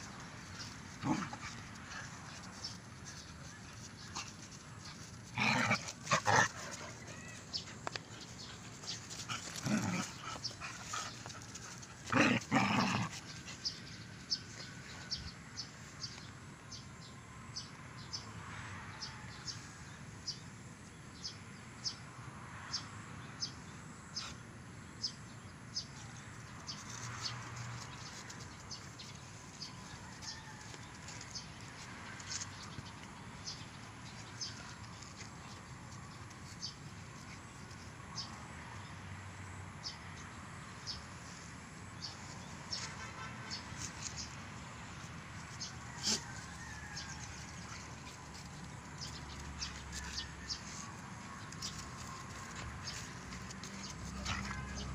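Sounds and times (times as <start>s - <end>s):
dogs playing noisily: 0.0s - 16.8s, 25.7s - 54.9s.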